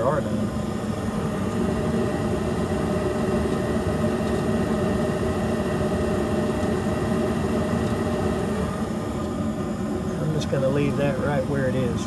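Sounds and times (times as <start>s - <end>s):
faint steady whine: 0.0s - 12.0s
gas furnace hum and hiss: 0.0s - 12.0s.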